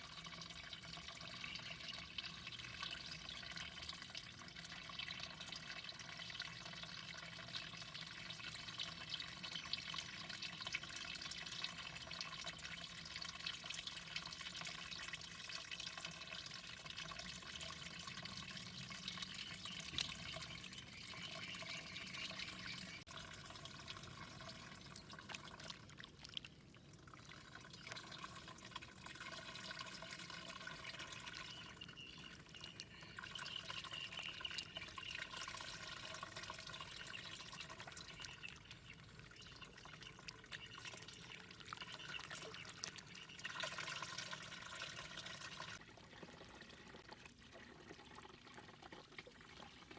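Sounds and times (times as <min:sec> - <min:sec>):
water drips and trickles: 0:00.0 - 0:49.9.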